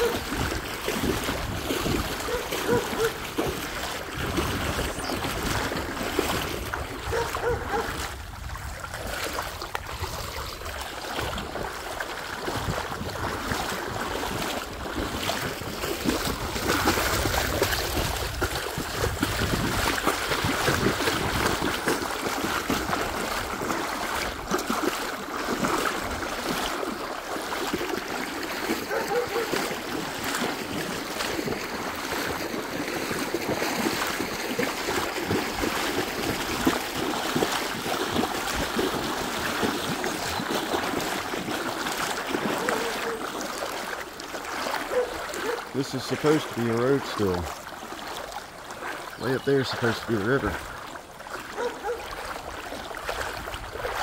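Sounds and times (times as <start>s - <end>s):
steady rush of moving water: 0.0s - 54.0s
water sloshing as someone wades: 0.0s - 54.0s.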